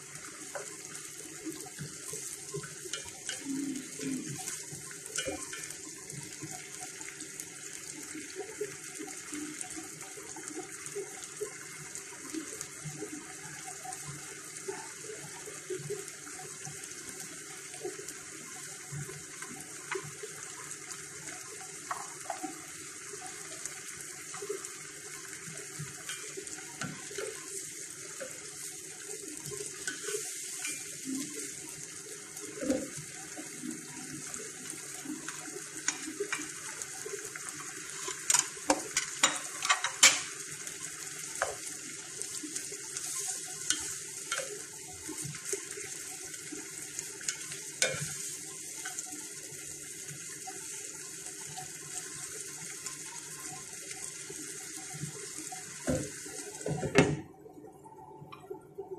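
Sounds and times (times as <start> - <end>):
food sizzling in a pan: 0.0 - 58.9.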